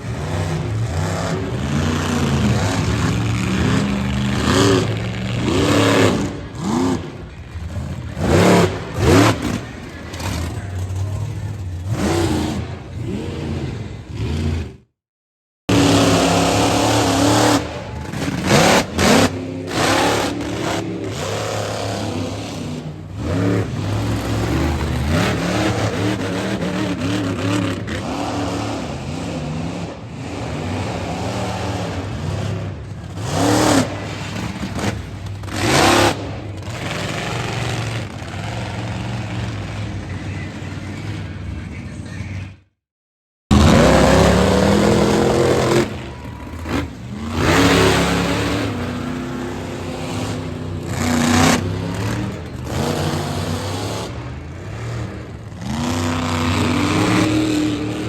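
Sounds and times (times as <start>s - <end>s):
truck engines revving: 0.0s - 15.0s, 15.7s - 42.8s, 43.5s - 58.0s.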